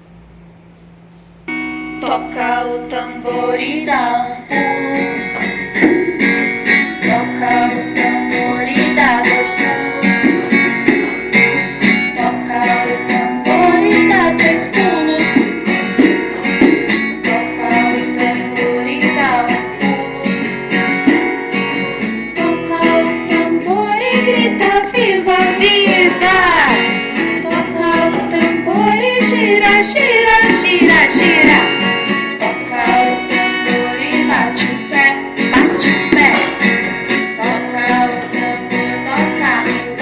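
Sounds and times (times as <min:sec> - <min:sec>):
children's song singing: 0:01.9 - 0:40.0
plucked-string accompaniment: 0:05.2 - 0:40.0.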